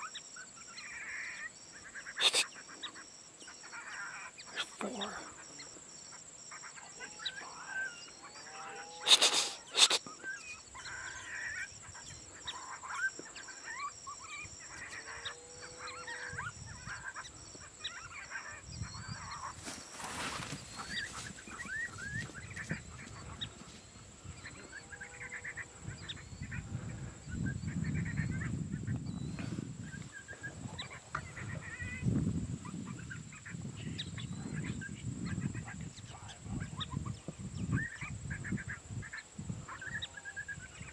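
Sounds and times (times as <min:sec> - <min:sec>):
coyotes yipping and howling: 0:00.0 - 0:40.9.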